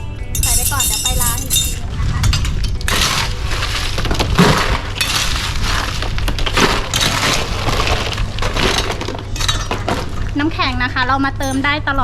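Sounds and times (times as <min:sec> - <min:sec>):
ice cubes clattering into bucket: 0:00.4 - 0:10.5.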